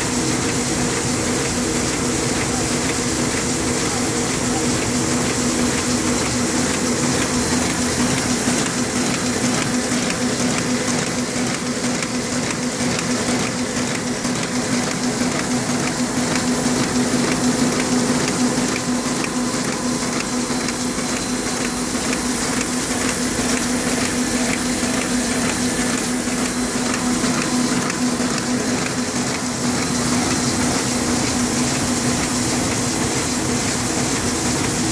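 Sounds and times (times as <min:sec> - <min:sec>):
printing press hum: 0:00.0 - 0:34.9.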